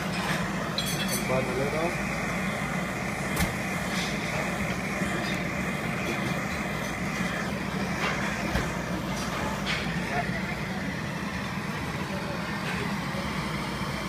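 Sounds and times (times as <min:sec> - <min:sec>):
kitchen torch hissing: 0:00.0 - 0:14.0.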